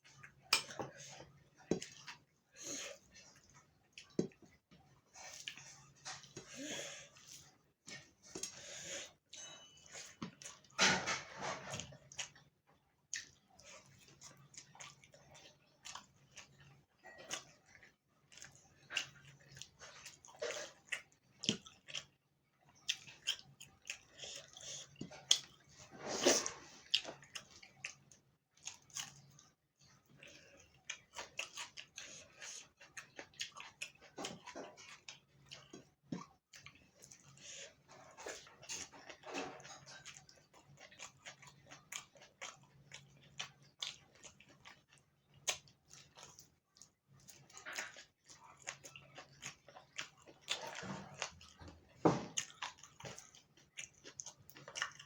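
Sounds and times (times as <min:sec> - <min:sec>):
chewing and wet mouth sounds: 0:00.0 - 0:10.8, 0:11.6 - 0:55.0.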